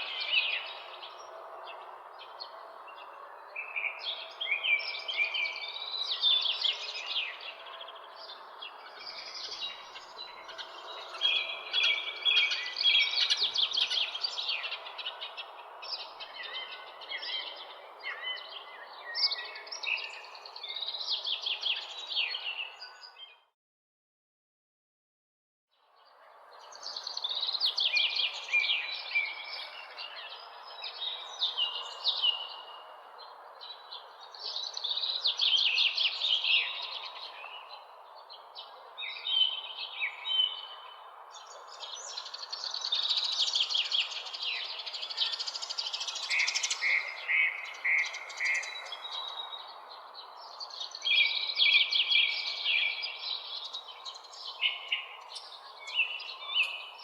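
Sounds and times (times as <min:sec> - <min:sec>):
songbirds chirping and singing: 0:00.0 - 0:23.5, 0:25.8 - 0:57.0.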